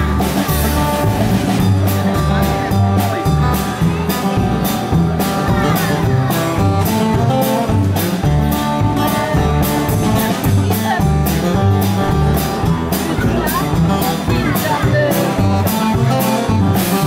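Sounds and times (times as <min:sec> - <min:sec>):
guitar lines: 0:00.0 - 0:17.0
steady drum beat: 0:00.0 - 0:17.0
walking bass line: 0:00.0 - 0:17.0.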